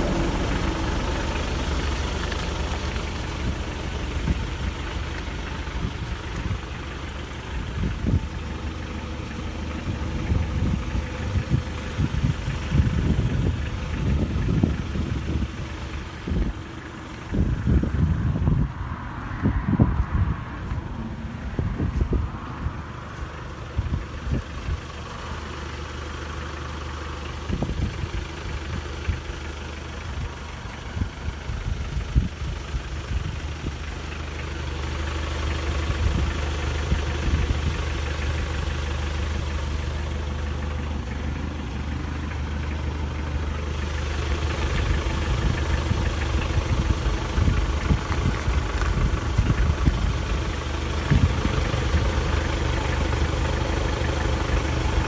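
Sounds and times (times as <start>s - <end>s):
van engine idling: 0.0s - 55.0s.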